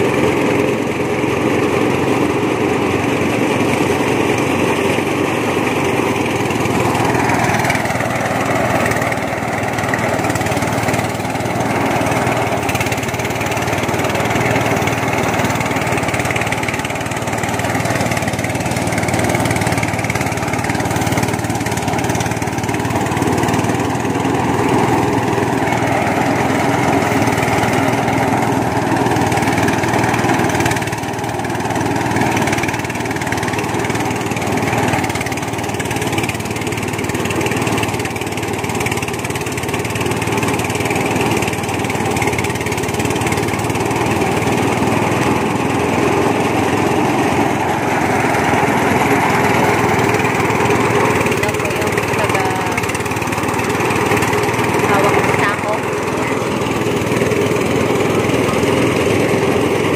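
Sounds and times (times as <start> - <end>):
small engine running steadily: 0.0 - 59.9.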